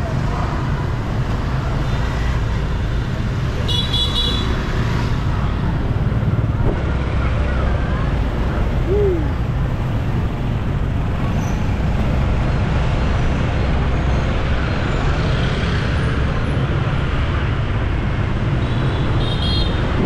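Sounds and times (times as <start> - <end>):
motorbike engine and road noise: 0.0 - 20.0.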